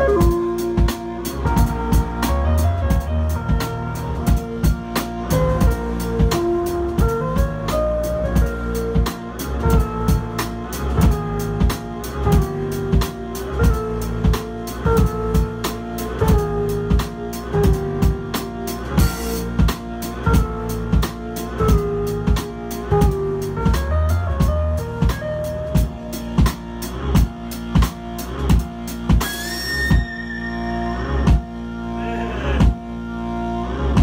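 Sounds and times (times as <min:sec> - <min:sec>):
drum kit beat: 0:00.0 - 0:31.8, 0:32.6 - 0:33.0
synthesizer keyboards: 0:00.0 - 0:34.0.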